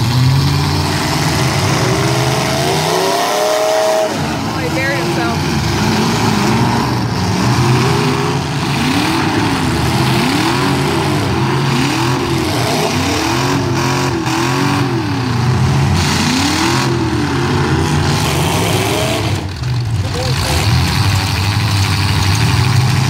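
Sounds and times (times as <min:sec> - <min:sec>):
truck engines revving: 0:00.0 - 0:23.0.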